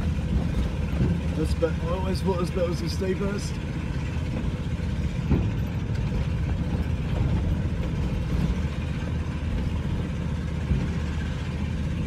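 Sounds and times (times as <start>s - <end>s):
van engine labouring: 0.0s - 12.0s.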